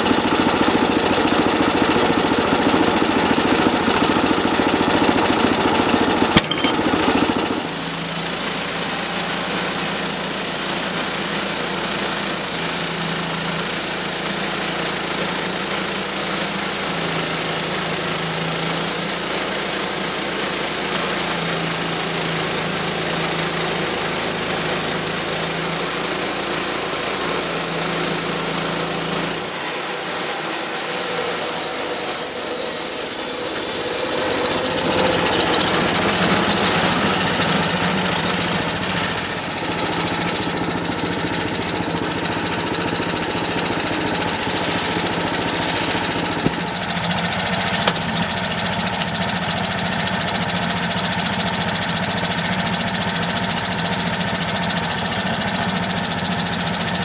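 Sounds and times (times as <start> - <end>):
band sawmill cutting log: 0.8 - 52.0.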